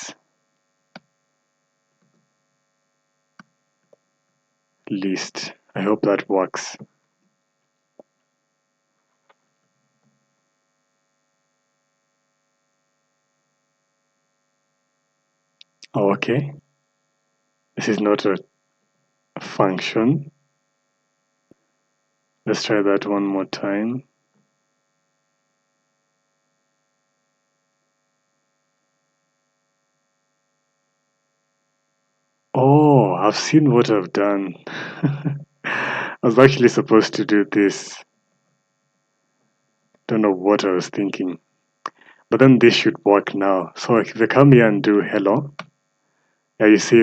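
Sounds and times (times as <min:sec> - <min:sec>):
faint electrical hum: 0:00.0 - 0:47.0.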